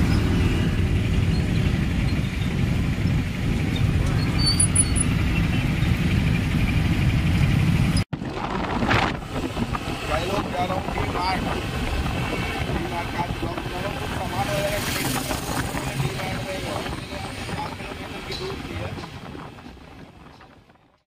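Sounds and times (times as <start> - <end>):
motorbike and scooter engines: 0.0 - 20.8.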